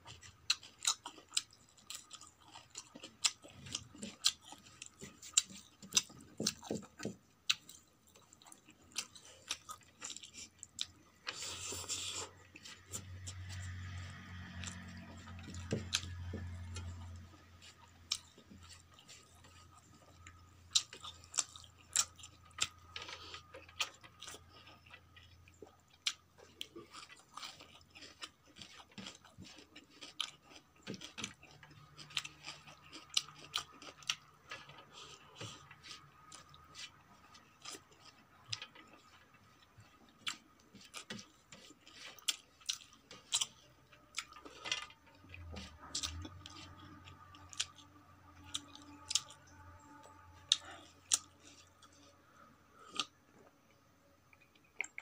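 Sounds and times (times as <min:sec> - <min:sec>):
chewing with mouth clicks: 0:00.0 - 0:55.0.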